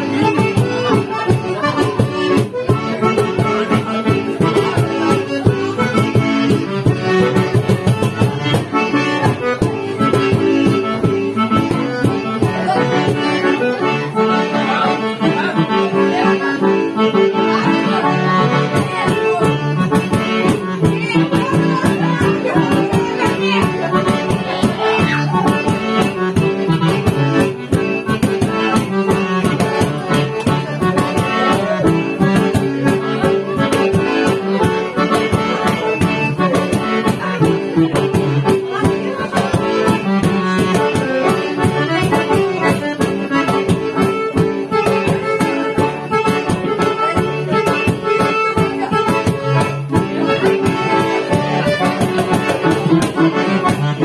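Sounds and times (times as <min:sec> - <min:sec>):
accordion playing lively tune: 0:00.0 - 0:54.0.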